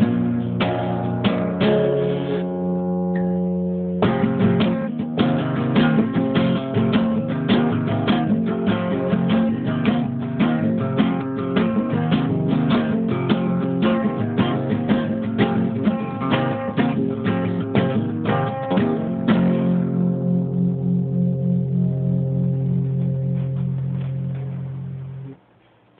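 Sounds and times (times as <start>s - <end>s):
plucked guitar notes: 0.0s - 25.4s
ringing guitar tones: 0.0s - 25.4s.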